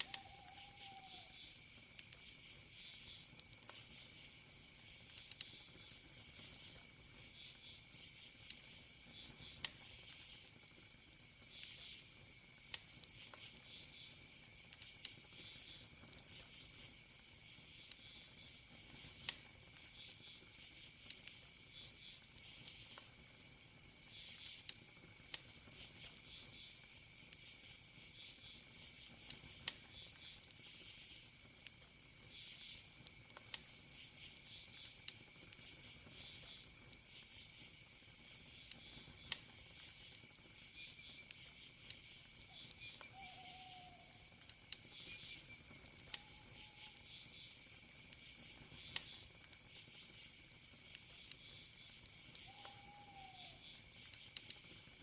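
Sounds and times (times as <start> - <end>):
burning wood crackling: 0.0 - 55.0
crickets chirping: 0.0 - 55.0
high insect trill: 0.0 - 55.0.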